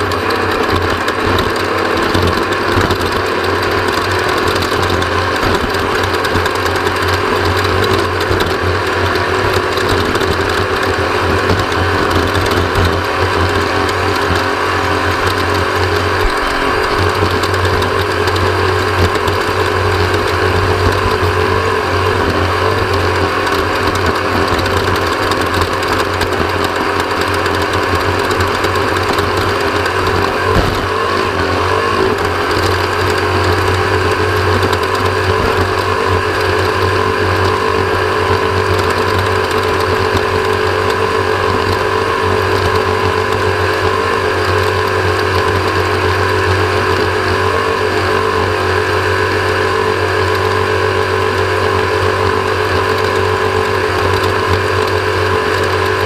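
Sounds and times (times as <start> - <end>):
race vehicle engine running hard: 0.0 - 56.0.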